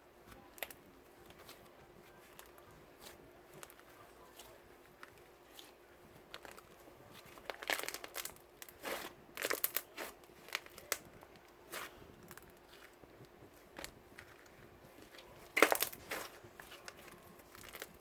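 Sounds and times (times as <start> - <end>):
faint steady hum: 0.0 - 18.0
crinkling and rustling: 0.2 - 18.0.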